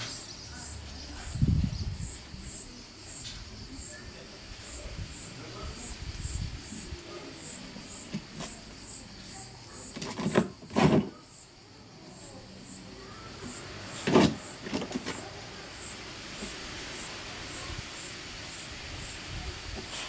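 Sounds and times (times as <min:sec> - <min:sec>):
pulsing high-pitched buzzing hiss: 0:00.0 - 0:20.0.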